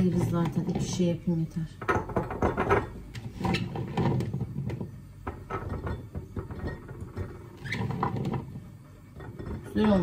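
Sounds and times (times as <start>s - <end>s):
plums knocking and clinking in jar: 0.0s - 10.0s.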